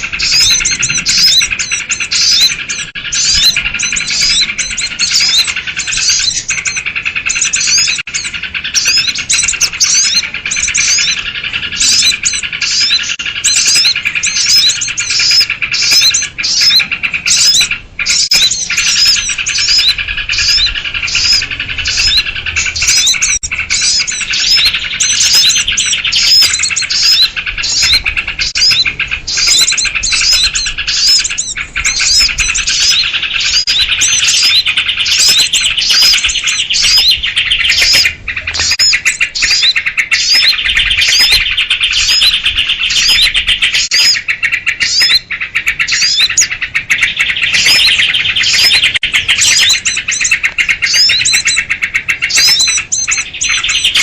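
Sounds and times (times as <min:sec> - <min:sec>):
dense bird chirps and chatter: 0:00.0 - 0:54.0.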